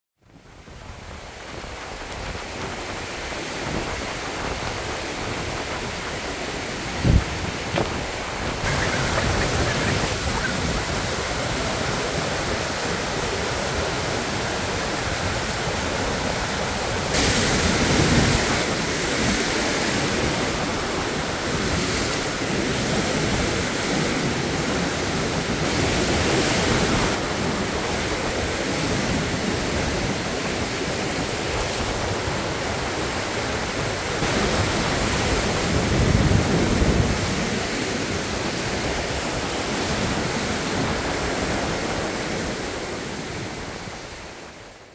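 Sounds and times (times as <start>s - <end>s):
waves breaking: 0.6s - 44.8s
waterfall rushing: 0.8s - 44.6s.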